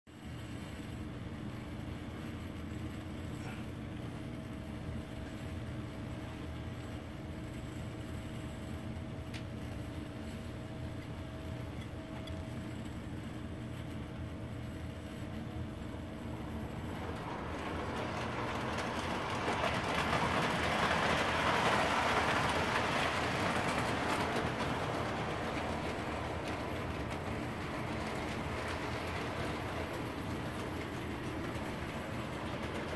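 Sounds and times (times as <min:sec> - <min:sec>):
faint steady whine: 0:00.1 - 0:32.9
toy train running: 0:04.2 - 0:32.9.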